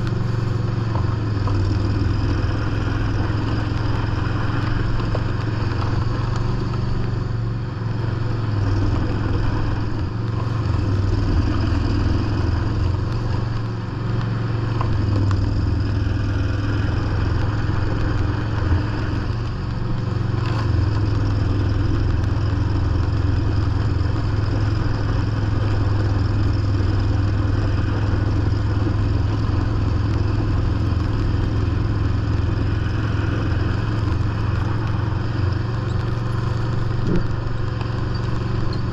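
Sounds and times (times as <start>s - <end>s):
lawn tractor engine under load: 0.0s - 38.9s.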